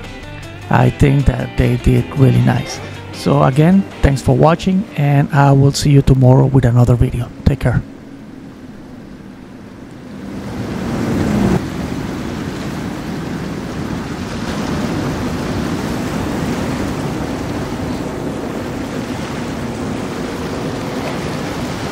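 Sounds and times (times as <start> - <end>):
steady rushing noise: 0.7 - 21.9.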